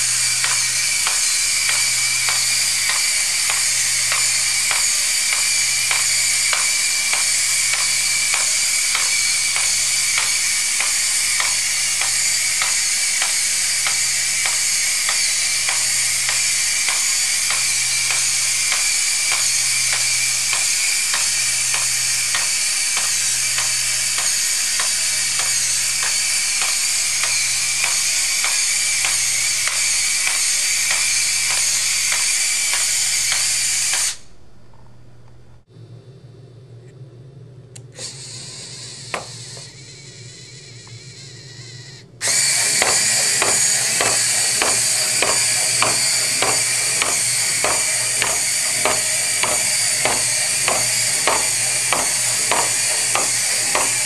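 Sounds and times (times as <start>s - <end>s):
robot feet ticking on tile: 0.0s - 34.1s, 42.2s - 54.0s
servo motors whirring: 0.0s - 34.2s, 38.0s - 54.0s
low hum: 0.0s - 54.0s.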